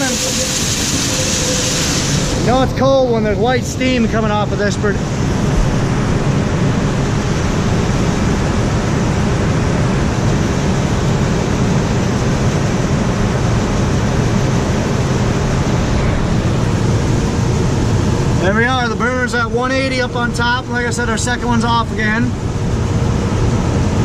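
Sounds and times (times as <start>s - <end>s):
grain dryer fan and burner: 0.0s - 24.0s.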